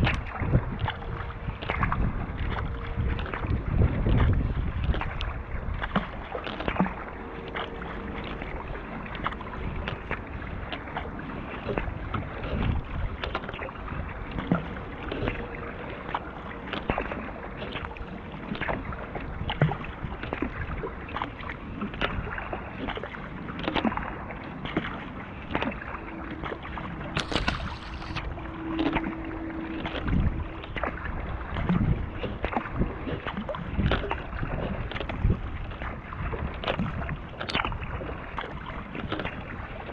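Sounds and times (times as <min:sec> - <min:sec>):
paddle blades splashing: 0:00.0 - 0:39.9
water rushing along hull: 0:00.0 - 0:39.9.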